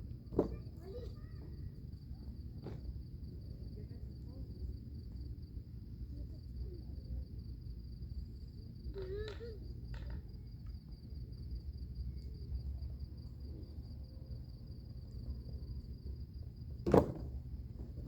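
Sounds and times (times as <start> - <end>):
crickets chirping: 0.0 - 18.0
low background rumble: 0.0 - 18.0.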